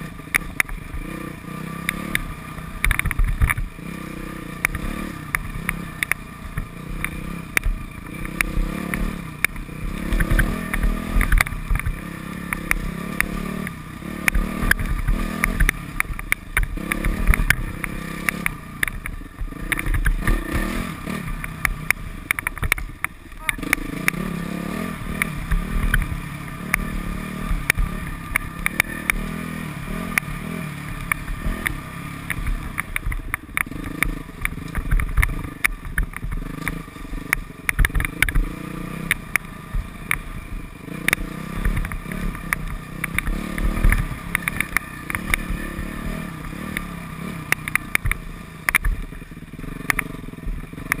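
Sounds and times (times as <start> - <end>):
dirt bike engine revving: 0.0 - 51.0
sharp clicks and knocks: 0.2 - 1.2, 1.8 - 3.8, 4.6 - 51.0.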